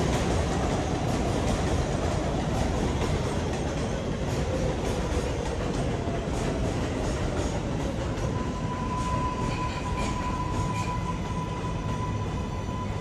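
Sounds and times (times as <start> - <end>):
wheels clicking over rail joints: 0.0 - 11.1
train rumbling past: 0.0 - 13.0.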